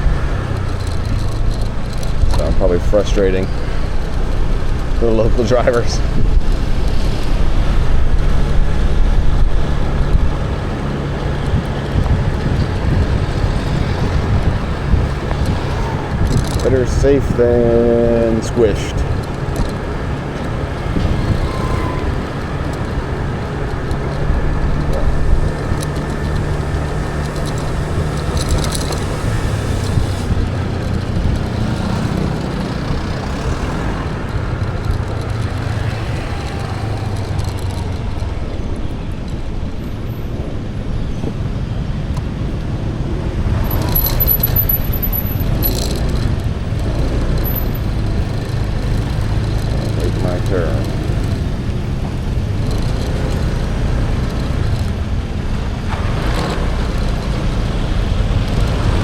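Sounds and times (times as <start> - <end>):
motorbike engine rumbling: 0.0 - 59.0.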